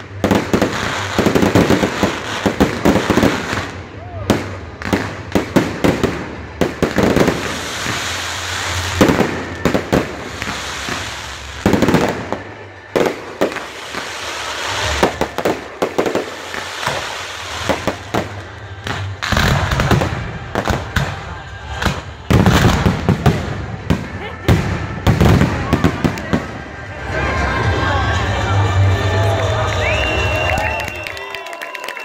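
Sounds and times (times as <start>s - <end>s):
fireworks bangs: 0.0s - 27.4s.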